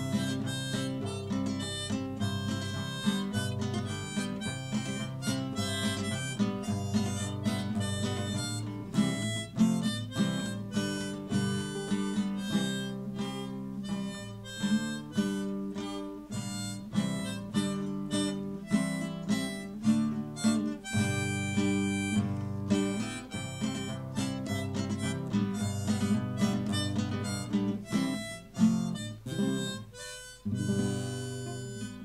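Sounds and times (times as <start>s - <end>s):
acoustic guitar accompaniment: 0.0s - 32.0s
harmonica melody: 0.0s - 32.0s.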